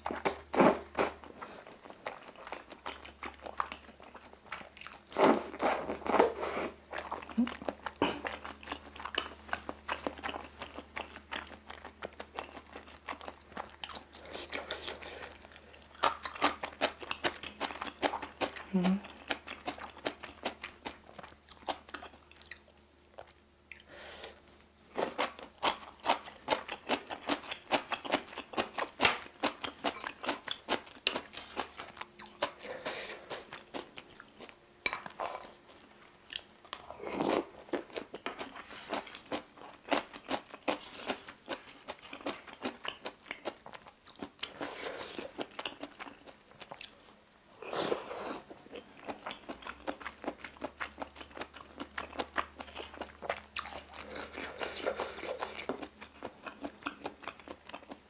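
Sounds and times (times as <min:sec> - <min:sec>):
wet chewing and crunching: 0:00.0 - 0:23.9, 0:24.9 - 0:58.0.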